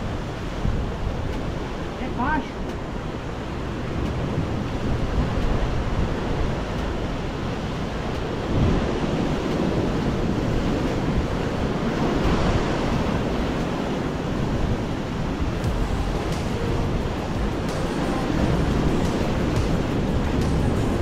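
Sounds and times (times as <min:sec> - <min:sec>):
surf washing on rocky shore: 0:00.0 - 0:21.0
wind buffeting microphone: 0:00.0 - 0:21.0.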